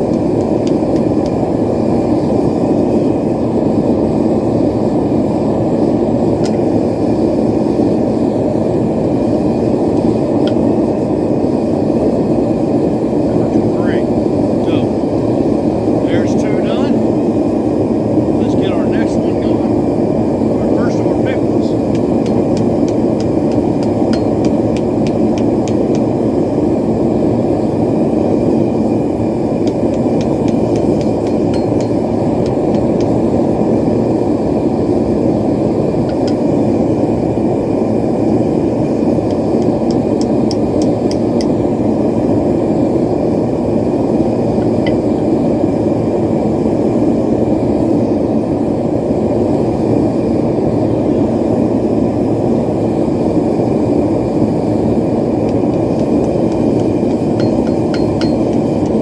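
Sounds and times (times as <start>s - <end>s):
propane forge burner roaring: 0.0s - 59.0s.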